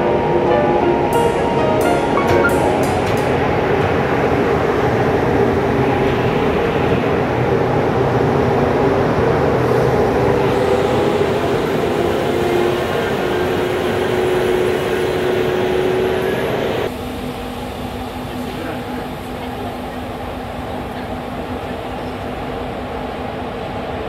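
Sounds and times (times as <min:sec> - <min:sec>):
electric locomotive rolling rumble: 0:00.0 - 0:24.0.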